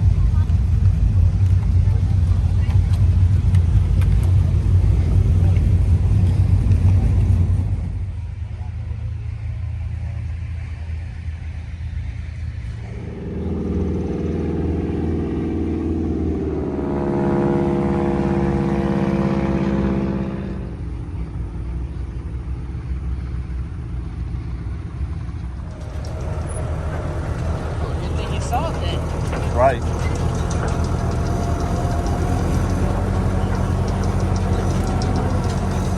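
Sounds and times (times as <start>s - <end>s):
heavy low engine rumble: 0.0s - 35.9s
steady engine note: 0.0s - 35.9s.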